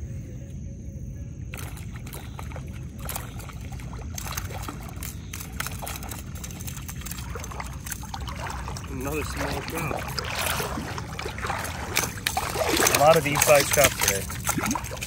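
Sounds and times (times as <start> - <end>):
steady low rumble: 0.0 - 15.0
fish splashing in water: 1.5 - 15.0.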